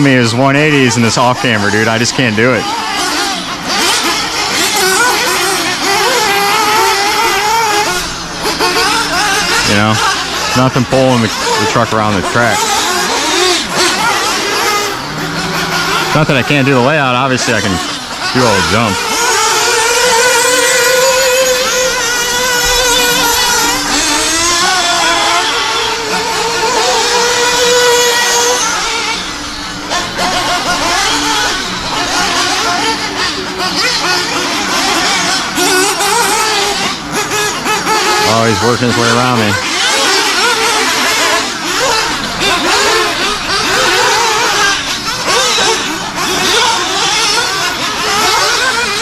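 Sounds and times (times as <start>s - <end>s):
small engines revving: 0.0s - 49.0s.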